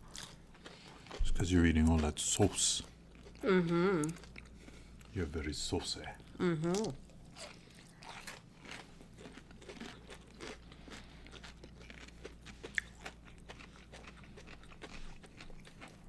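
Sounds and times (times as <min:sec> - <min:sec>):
chewing crunchy pickle: 0:00.0 - 0:16.0.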